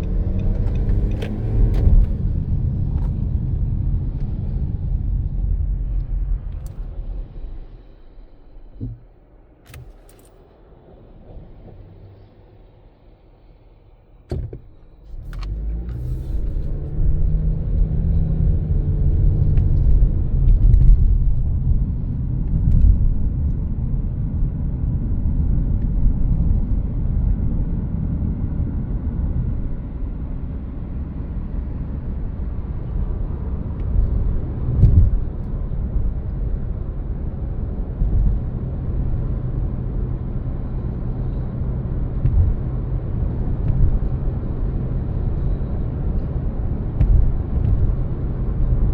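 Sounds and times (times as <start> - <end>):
car engine rumble: 0.0 - 48.9
road noise: 0.0 - 48.9.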